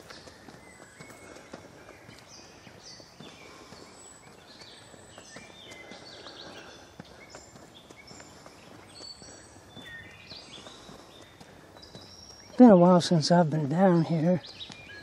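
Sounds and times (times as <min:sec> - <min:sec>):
faint footsteps: 0:00.0 - 0:15.0
songbirds singing: 0:00.0 - 0:15.0.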